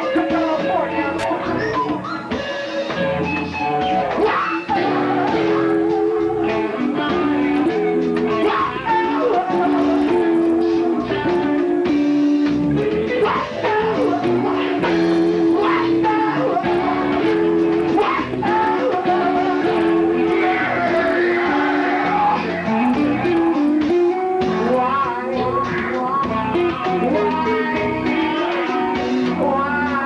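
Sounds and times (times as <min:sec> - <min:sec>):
bass guitar riffing: 0:00.0 - 0:30.0
drums: 0:00.0 - 0:30.0
electric guitar: 0:00.0 - 0:30.0.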